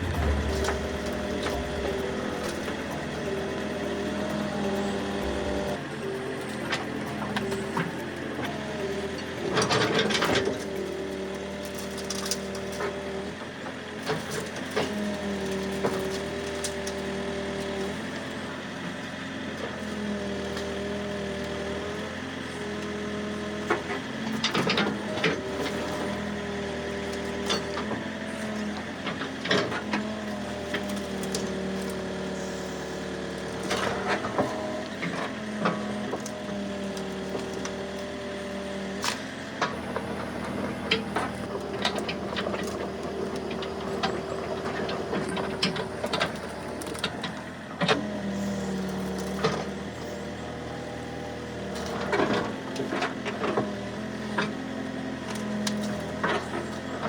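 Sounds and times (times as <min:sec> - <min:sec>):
machine engine running: 0:00.0 - 0:57.0.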